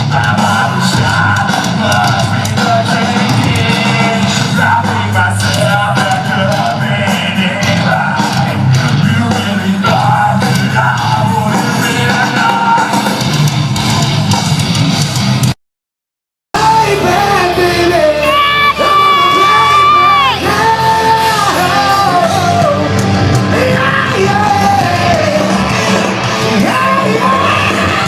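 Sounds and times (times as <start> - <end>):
live rock band playing: 0.0 - 15.6, 16.6 - 28.0.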